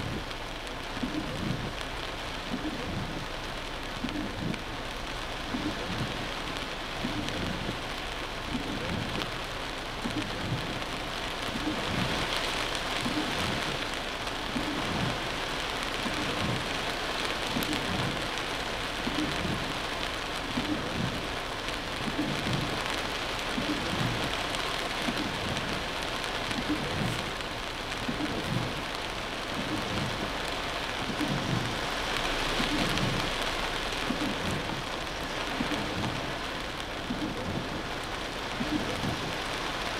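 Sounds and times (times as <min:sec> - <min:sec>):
heavy rain on car roof: 0:00.0 - 0:39.9
soft regular low pulse: 0:00.0 - 0:39.9.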